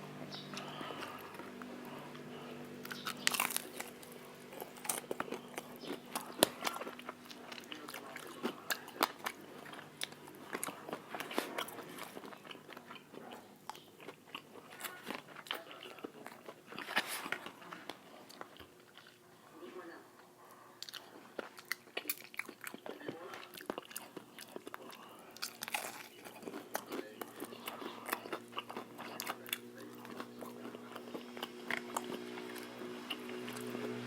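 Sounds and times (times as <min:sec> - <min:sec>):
crunchy fried chicken being chewed: 0:00.0 - 0:34.0.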